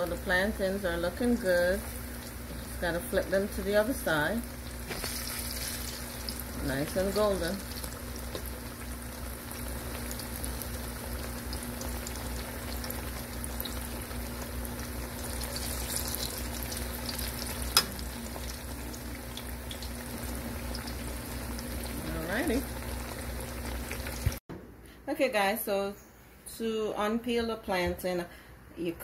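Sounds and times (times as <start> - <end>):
oil sizzling with crackling pops: 1.1 - 24.4.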